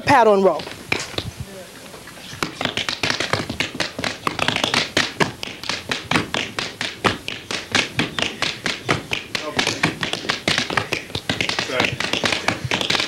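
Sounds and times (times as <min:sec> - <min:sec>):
tap shoes on wooden stage: 0:00.5 - 0:01.3, 0:02.4 - 0:13.0.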